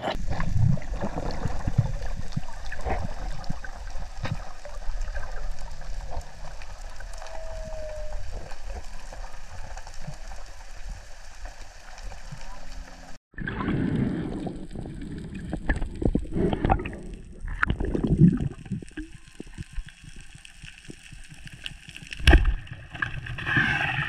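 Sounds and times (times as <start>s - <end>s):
muffled underwater water rushing: 0.0s - 24.0s.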